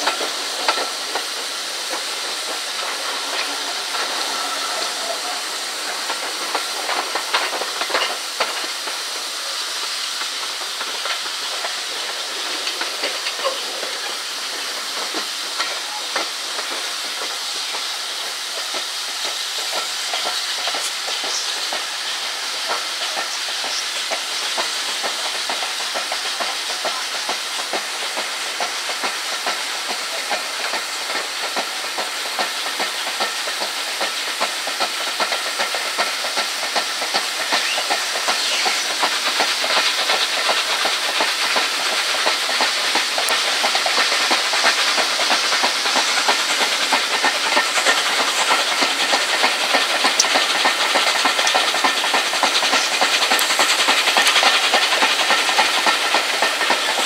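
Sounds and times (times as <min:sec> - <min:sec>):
steam train running hiss: 0:00.0 - 0:57.0.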